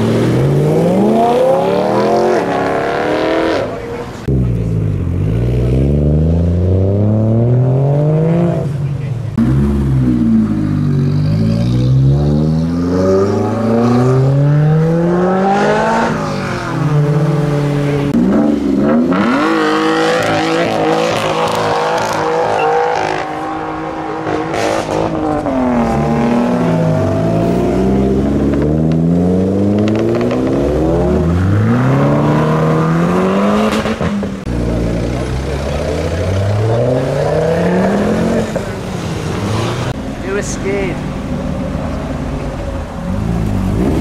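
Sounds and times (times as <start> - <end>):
car engines revving hard: 0.0 - 44.0.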